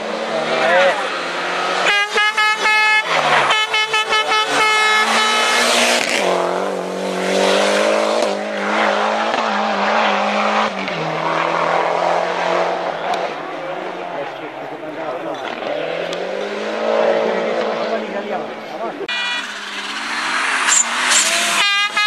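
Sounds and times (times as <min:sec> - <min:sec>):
distant rally engine under load: 0:00.0 - 0:22.0
rally car engine revving: 0:00.0 - 0:22.0.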